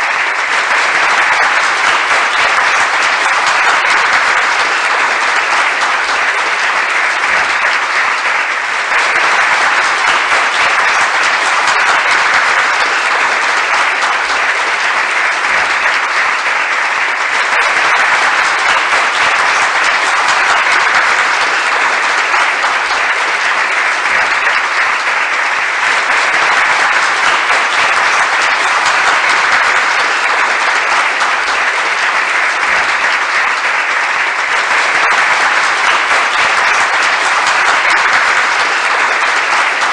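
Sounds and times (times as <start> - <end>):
crowd applauding: 0.0 - 39.9.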